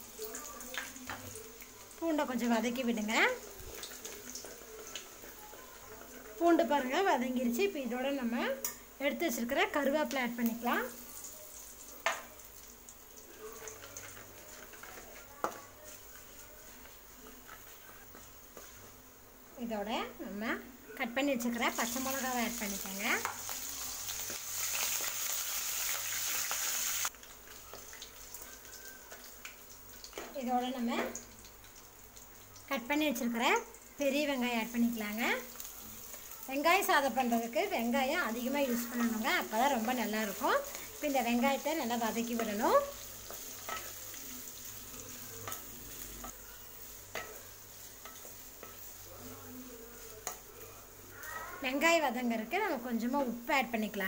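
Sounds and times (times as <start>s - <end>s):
oil sizzling: 0.0s - 54.0s.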